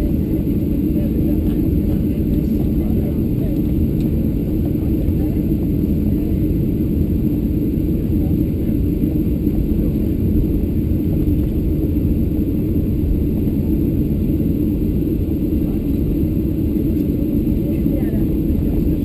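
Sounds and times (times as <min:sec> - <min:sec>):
airplane cabin low rumble: 0:00.0 - 0:19.0.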